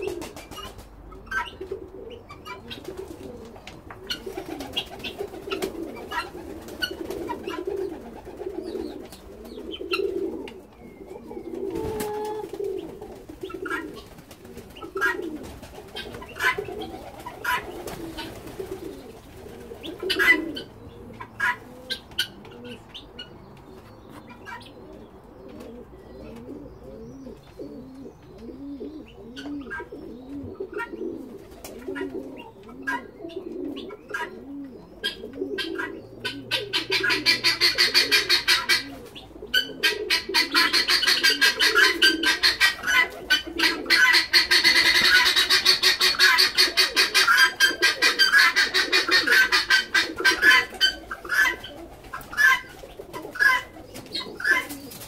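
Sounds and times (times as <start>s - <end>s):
birds chirping and calling: 0.0s - 55.0s
pigeons cooing: 0.0s - 55.0s.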